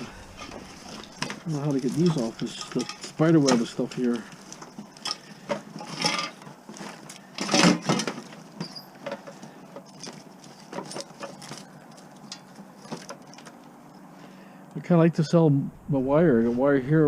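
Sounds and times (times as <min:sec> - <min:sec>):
metal rattle: 0:00.0 - 0:14.0
scrap wiring and metal rustling: 0:00.0 - 0:14.4.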